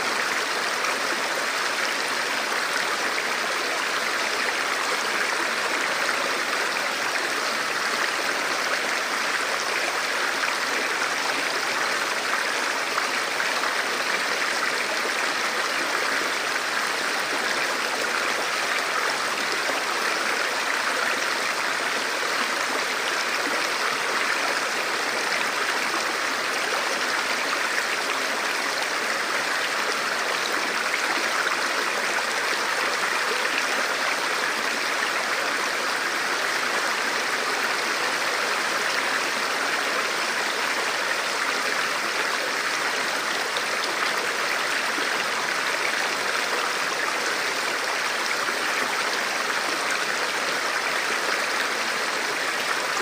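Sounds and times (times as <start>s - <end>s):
stream flowing over rocks: 0.0s - 53.0s.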